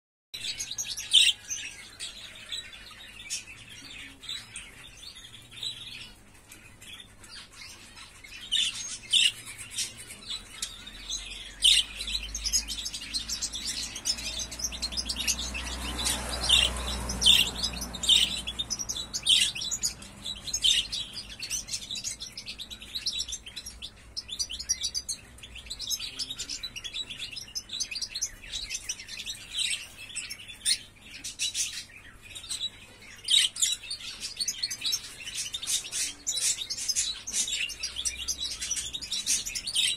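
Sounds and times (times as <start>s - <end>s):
bird chirping and twittering: 0.4s - 39.9s.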